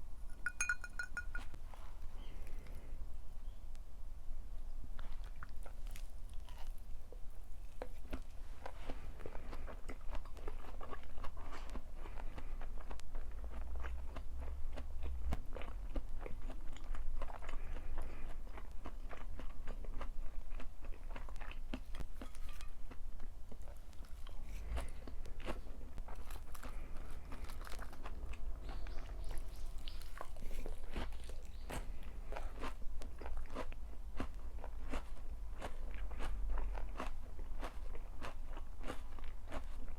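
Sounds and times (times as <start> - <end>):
person chewing food: 0.3 - 2.8, 5.0 - 39.9.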